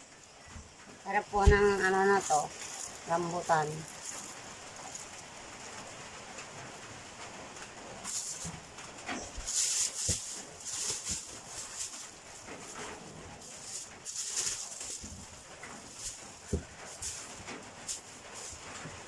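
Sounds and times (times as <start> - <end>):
plastic bag rustling: 0.5 - 19.0.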